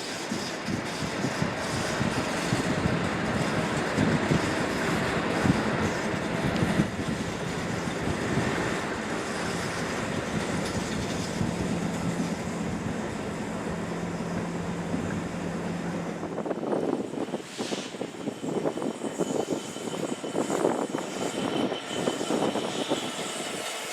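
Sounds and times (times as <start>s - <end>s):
train wheels rumbling on track: 0.0s - 23.9s.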